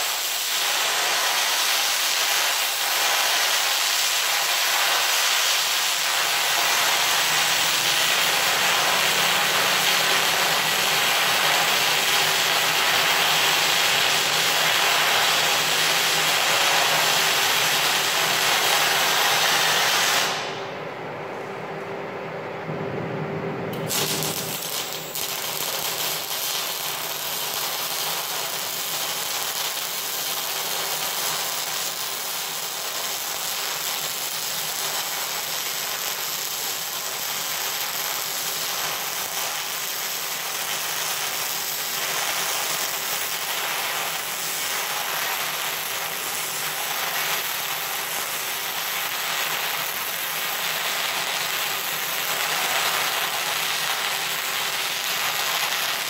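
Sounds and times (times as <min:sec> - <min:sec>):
welding arc crackling hiss: 0:00.0 - 0:20.7, 0:23.7 - 0:56.0.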